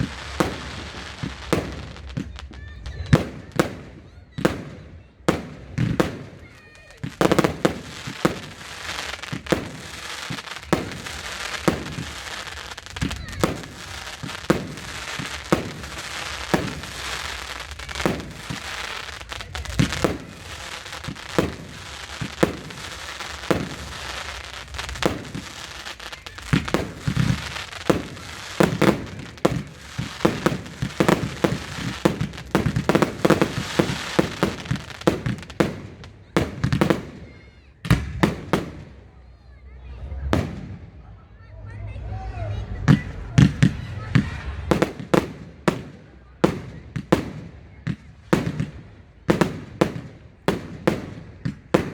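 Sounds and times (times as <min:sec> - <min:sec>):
firework bangs and shell bursts: 0:00.0 - 0:39.1, 0:42.9 - 0:51.9
firework crackling: 0:00.0 - 0:51.9.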